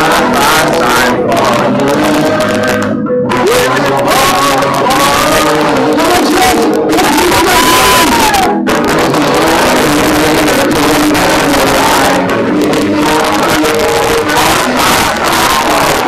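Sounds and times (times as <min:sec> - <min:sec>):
congregation singing: 0:00.0 - 0:16.0
man singing into a microphone: 0:00.0 - 0:16.0
worship music instruments: 0:00.0 - 0:16.0.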